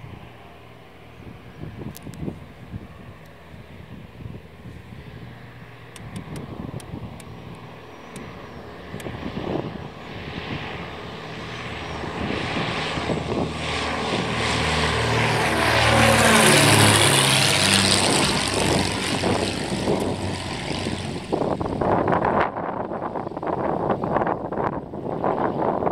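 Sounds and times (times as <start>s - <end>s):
propeller plane passing overhead: 0.0s - 25.9s.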